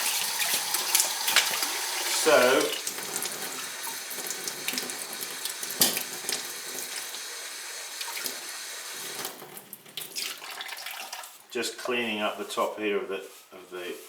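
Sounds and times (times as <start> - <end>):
tap water running into sink: 0.0 - 11.4.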